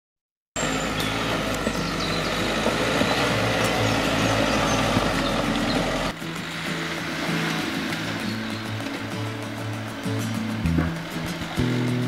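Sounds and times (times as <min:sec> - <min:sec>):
off-road vehicle engine running: 0:00.6 - 0:12.0.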